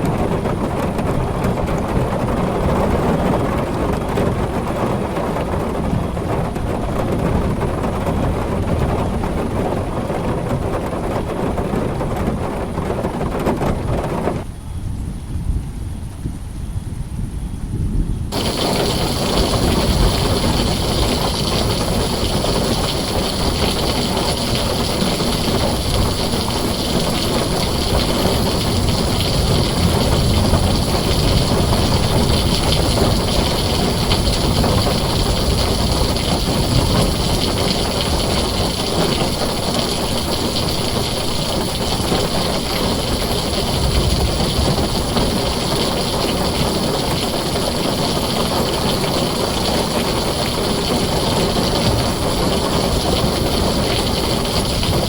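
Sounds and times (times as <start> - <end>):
heavy rain on a tin roof: 0.0 - 14.8, 18.2 - 55.0.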